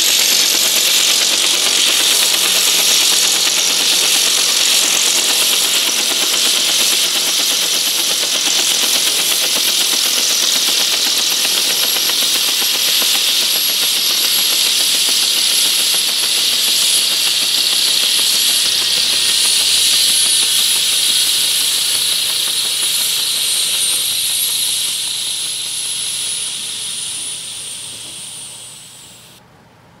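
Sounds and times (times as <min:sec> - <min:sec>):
helicopter turbine whine winding down: 0:00.0 - 0:29.4.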